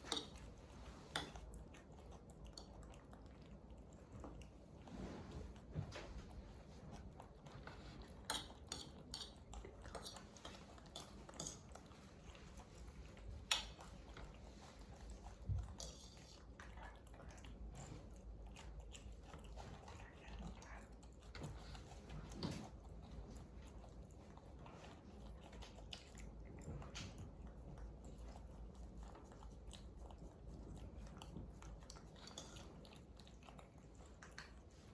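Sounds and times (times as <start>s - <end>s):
monkeys chewing and smacking: 0.0s - 34.9s.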